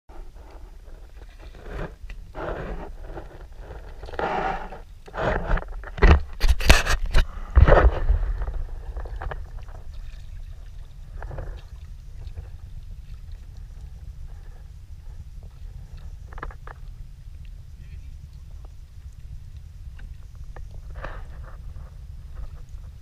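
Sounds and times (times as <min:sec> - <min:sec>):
wind rumble on microphone: 0:00.1 - 0:23.0.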